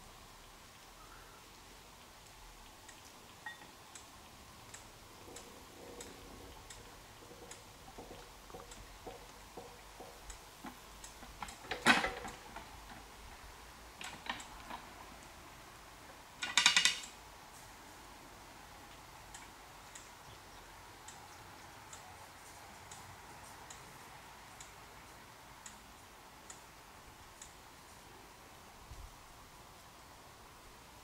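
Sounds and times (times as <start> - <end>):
faint mechanical ticks: 0.0 - 30.1.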